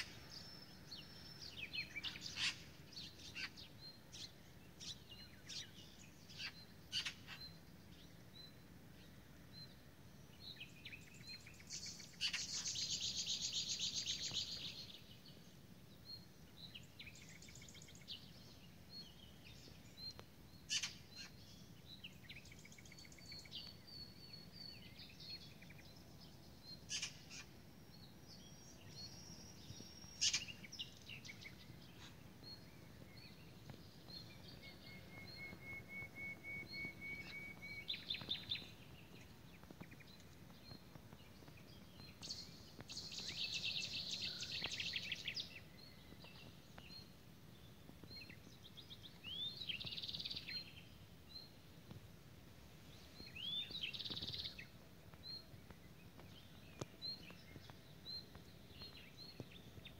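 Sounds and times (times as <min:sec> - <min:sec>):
wild birds calling and singing: 0:00.0 - 0:59.9.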